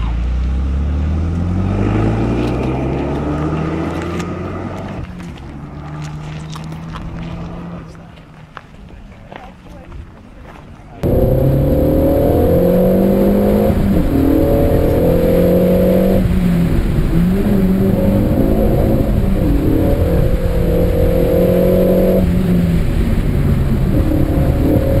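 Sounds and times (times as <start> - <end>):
car engine revving: 0.0 - 8.0, 11.0 - 25.0.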